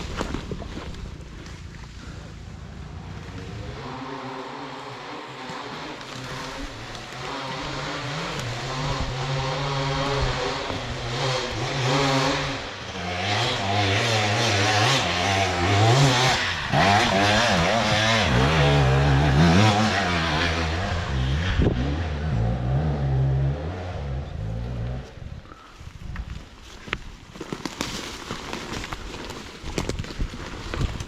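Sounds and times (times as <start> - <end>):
dirt bike engines revving: 0.0 - 25.6.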